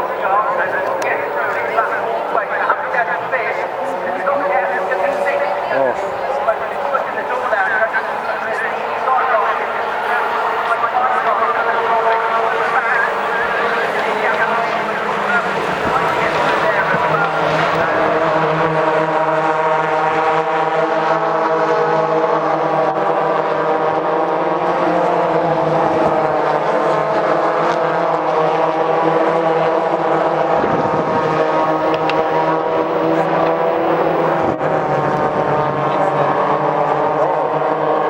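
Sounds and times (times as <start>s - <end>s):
race car engines droning: 0.0s - 38.0s.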